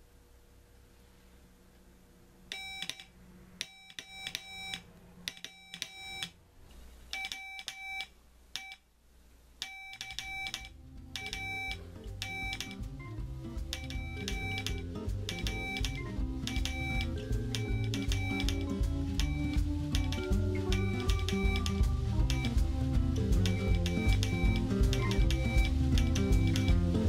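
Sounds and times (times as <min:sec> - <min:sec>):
morse code beeps: 0:02.5 - 0:06.4, 0:07.2 - 0:08.8, 0:09.6 - 0:27.0.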